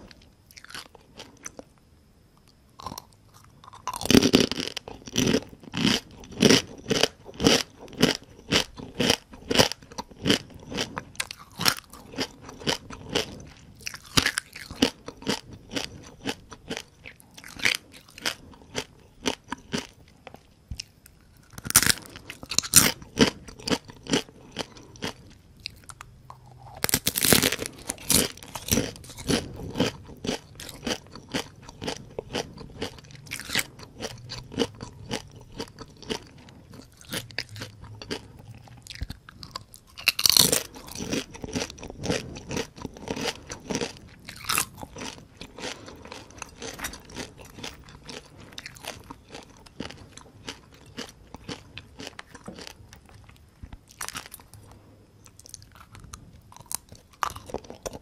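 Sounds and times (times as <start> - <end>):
chewing crunchy fried crabs: 0.0 - 1.7, 2.4 - 58.0.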